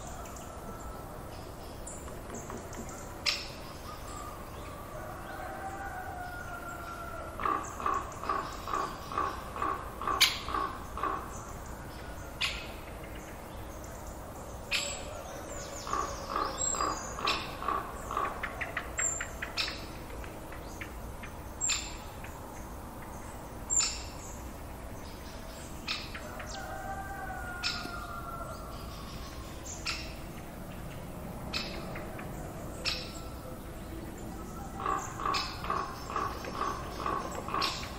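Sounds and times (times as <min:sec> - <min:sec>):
soft steady hiss: 0:00.0 - 0:37.9.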